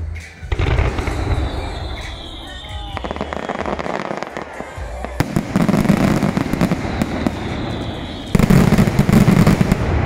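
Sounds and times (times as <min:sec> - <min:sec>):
fireworks bangs and crackles: 0:00.4 - 0:10.0.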